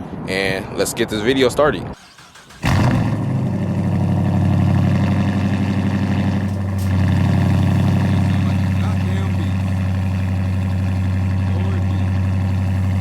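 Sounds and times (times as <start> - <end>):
car engine idling: 2.0 - 13.0.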